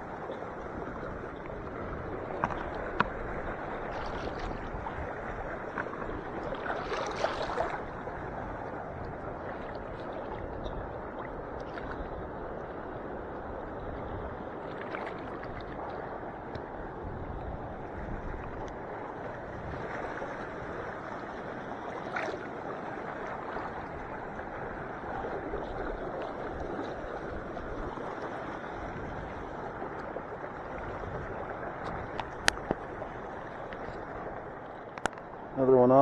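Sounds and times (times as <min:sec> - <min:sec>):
small waves lapping: 0:00.0 - 0:36.0
wind: 0:00.0 - 0:36.0.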